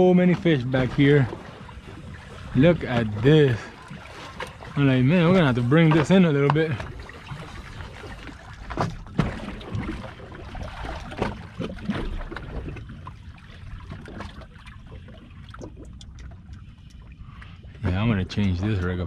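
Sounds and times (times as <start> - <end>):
small waves lapping against boat: 0.0 - 19.0.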